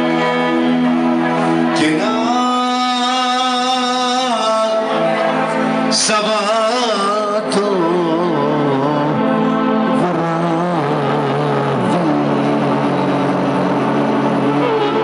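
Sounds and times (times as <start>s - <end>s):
keyboard accompaniment: 0.0s - 15.0s
man singing through microphone: 0.0s - 15.0s.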